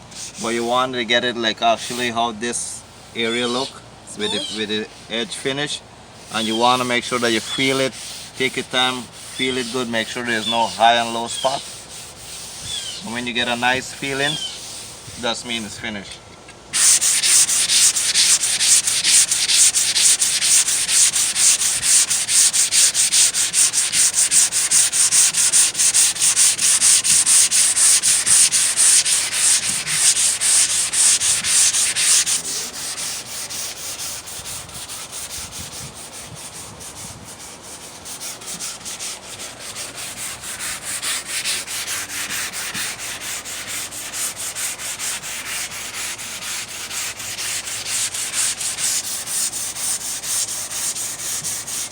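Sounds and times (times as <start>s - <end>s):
sandpaper scratching on filler: 0.1s - 0.8s, 1.8s - 2.2s, 3.0s - 15.8s, 16.8s - 51.9s.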